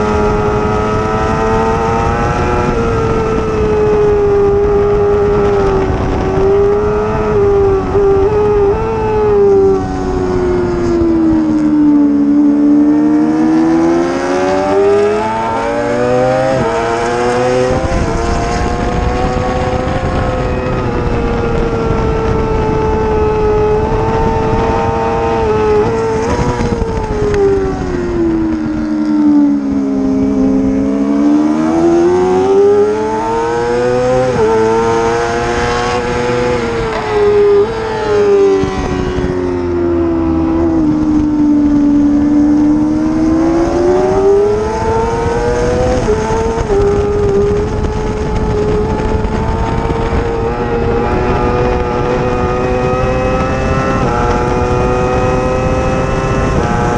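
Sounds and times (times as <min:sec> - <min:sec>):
racing motorcycle engine: 0:00.0 - 0:56.9.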